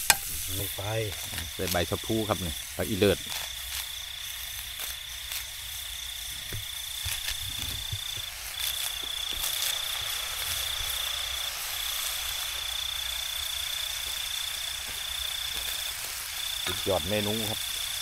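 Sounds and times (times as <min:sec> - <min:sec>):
insect trilling: 0:00.0 - 0:18.0
leaves knocking and rustling in wok: 0:00.0 - 0:18.0
steady hiss: 0:00.0 - 0:18.0.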